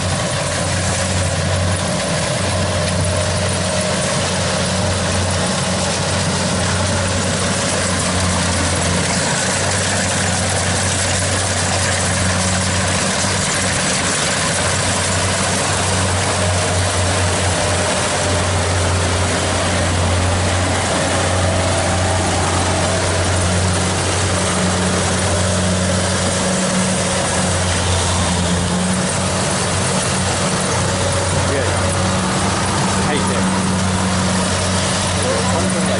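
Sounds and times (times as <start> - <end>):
combine harvester diesel engine humming: 0.0 - 35.9.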